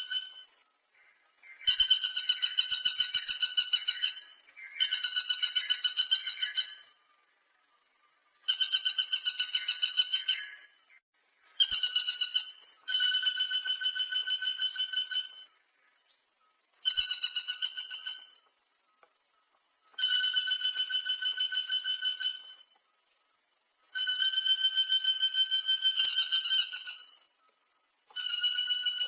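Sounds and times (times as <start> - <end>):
woodpecker rattling call: 0.0 - 7.1, 8.2 - 22.9, 23.8 - 29.0.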